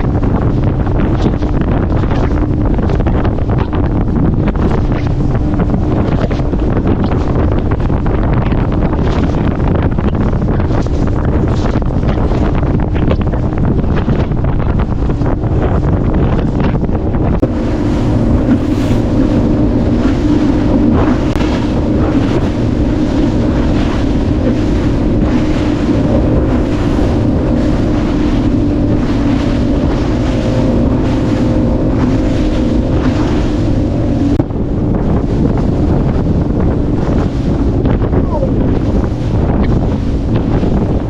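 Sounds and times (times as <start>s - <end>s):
outboard motor running: 0.0s - 41.0s
water splashing against hull: 0.0s - 41.0s
wind buffeting microphone: 0.0s - 41.0s.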